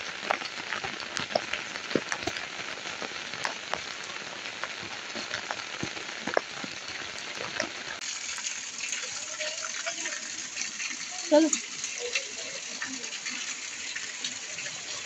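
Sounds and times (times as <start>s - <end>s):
heavy rain falling: 0.0s - 15.0s
rain drops striking close by: 0.0s - 15.0s.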